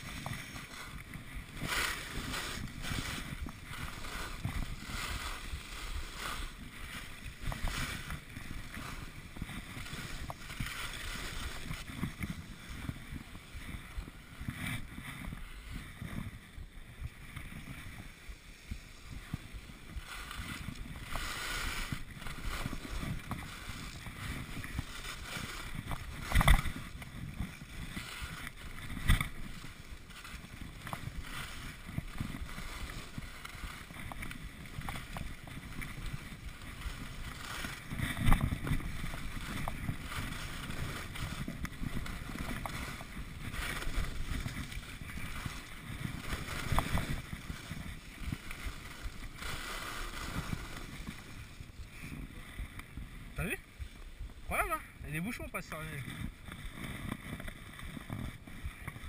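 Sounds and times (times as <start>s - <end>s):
skis scraping over snow: 0.0s - 59.0s
wind on microphone: 0.0s - 59.0s.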